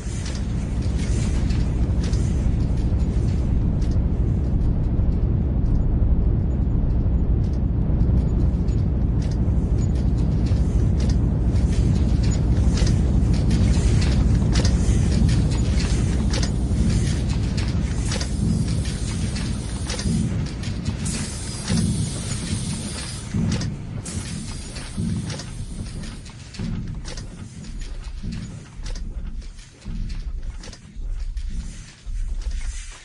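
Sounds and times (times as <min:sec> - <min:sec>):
machinery rumbling: 0:00.0 - 0:33.0
sharp clicks and clanks: 0:00.0 - 0:33.0.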